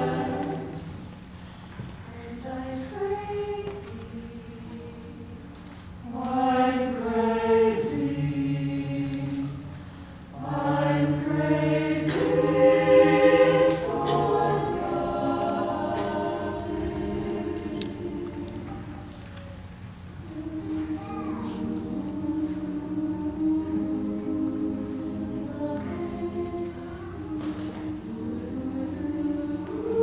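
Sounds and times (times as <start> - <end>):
mixed choir singing: 0.0 - 1.2, 2.1 - 19.3, 20.2 - 30.0.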